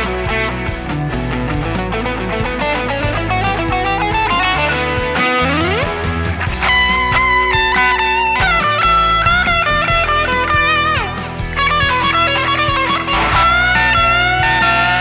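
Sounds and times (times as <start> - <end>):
amplified electric guitar lead: 0.0 - 15.0.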